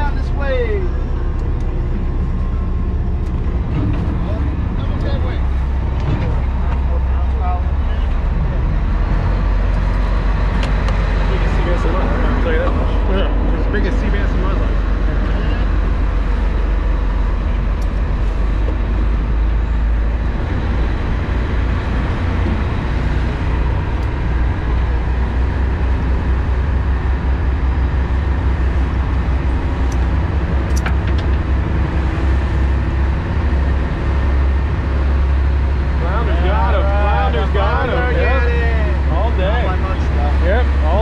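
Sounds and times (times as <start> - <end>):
boat engine rumbling: 0.0 - 41.0
wind and water noise: 0.0 - 41.0.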